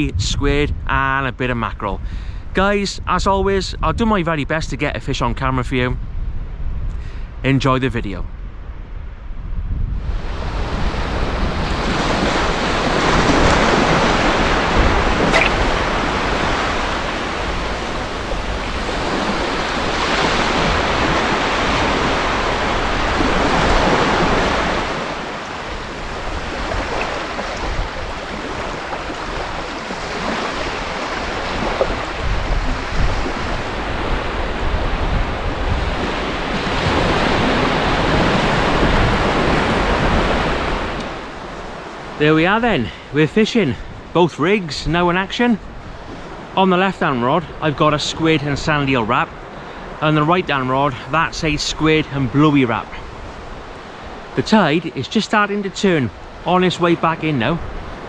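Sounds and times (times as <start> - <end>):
wind rumbling on microphone: 0.0 - 46.6, 47.3 - 54.6, 56.1 - 58.0
small waves breaking on shore: 10.0 - 44.2, 45.2 - 58.0.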